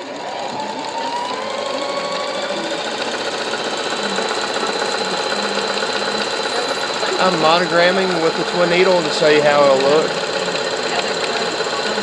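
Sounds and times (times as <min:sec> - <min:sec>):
sewing machine running: 0:00.0 - 0:12.0.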